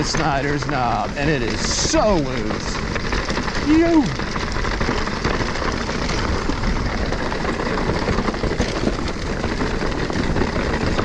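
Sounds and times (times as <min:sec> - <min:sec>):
bike clicks and rattles: 0:00.0 - 0:11.0
bike tyres on dirt trail: 0:00.0 - 0:11.0.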